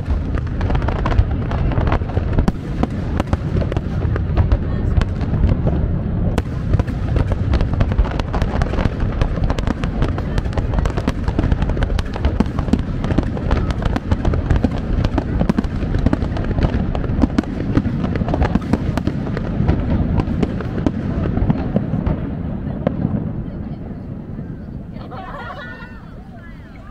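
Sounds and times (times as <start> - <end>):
fireworks bursts and crackles: 0.0 - 26.9.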